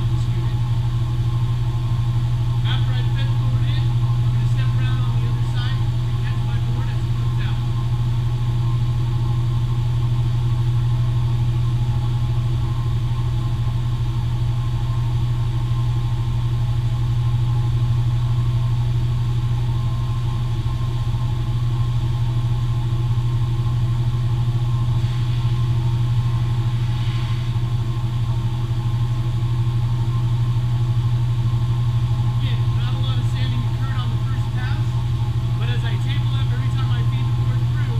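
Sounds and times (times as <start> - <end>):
motor hum of machines: 0.0 - 37.9.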